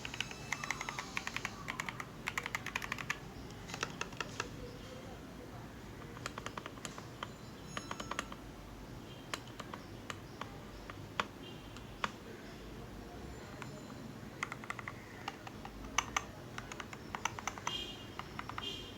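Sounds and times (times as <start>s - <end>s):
mechanical keyboard typing: 0.0s - 4.7s, 6.0s - 8.5s, 9.3s - 12.2s, 13.5s - 18.8s.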